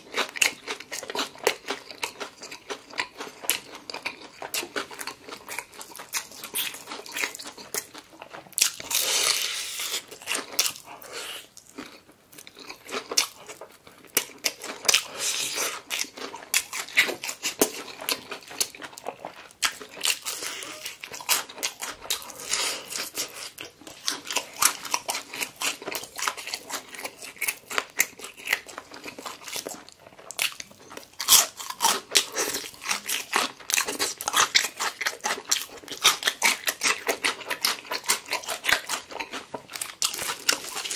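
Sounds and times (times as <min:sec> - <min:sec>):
crunching fried chicken: 0:00.0 - 0:40.9.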